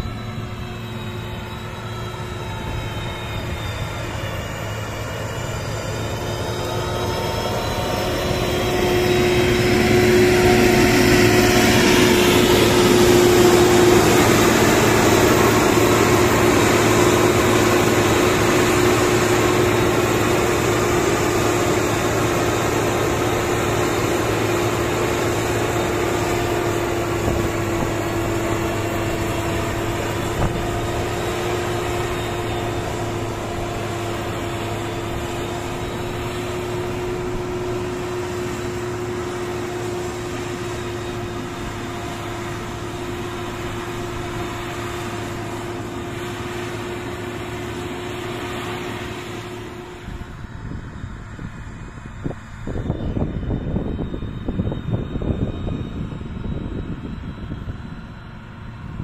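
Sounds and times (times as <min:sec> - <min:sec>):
diesel engine passing: 0:00.0 - 0:59.0.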